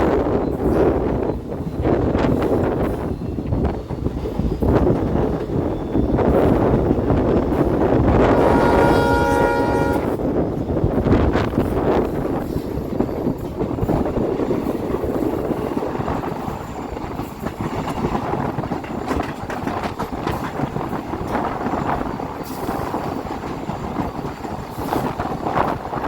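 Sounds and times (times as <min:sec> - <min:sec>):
train rumbling on rails: 0:00.0 - 0:26.0
train wheels clicking: 0:00.0 - 0:26.0.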